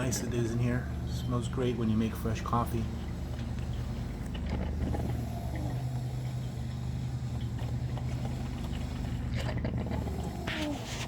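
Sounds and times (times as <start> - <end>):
coffee maker humming: 0.0 - 11.0.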